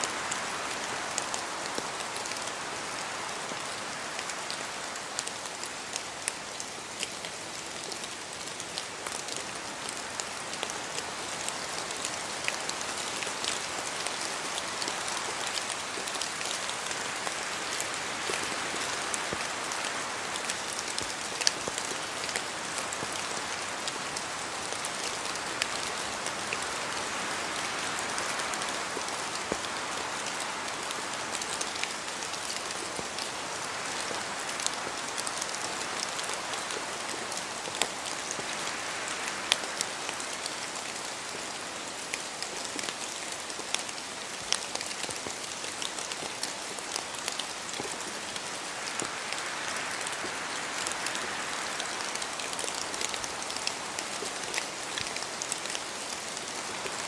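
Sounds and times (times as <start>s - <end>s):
gentle wind: 0.0s - 57.0s
rain in a forest: 0.0s - 57.0s.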